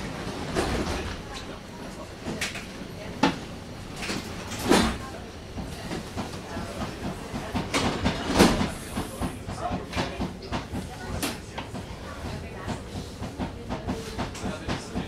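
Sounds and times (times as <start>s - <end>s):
tram running noise: 0.0s - 15.0s.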